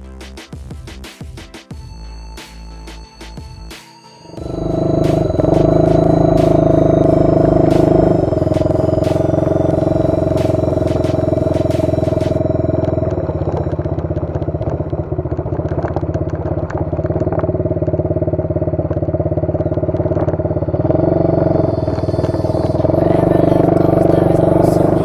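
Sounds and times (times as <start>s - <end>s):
atv engine running: 4.3s - 25.0s.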